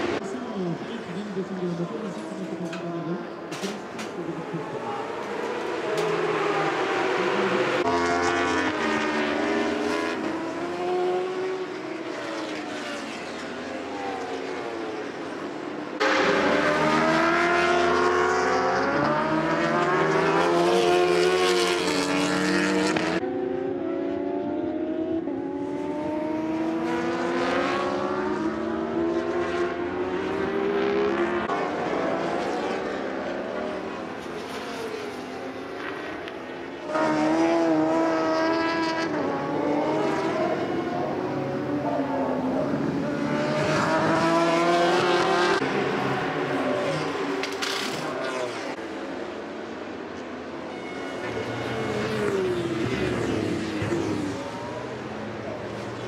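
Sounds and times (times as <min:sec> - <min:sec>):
motorcycle engines revving past: 0:04.0 - 0:49.2, 0:50.8 - 0:56.0.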